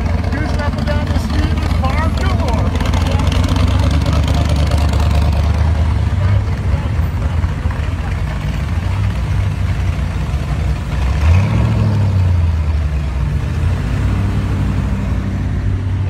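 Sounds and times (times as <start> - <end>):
car engine rumbling: 0.0 - 16.0
engine revving: 0.0 - 16.0.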